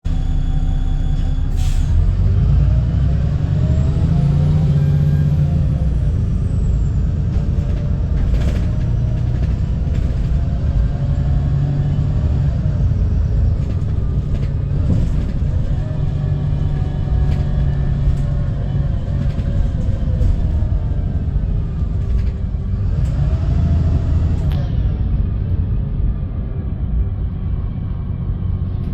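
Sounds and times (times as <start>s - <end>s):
bus engine rumble with whine: 0.0s - 28.9s.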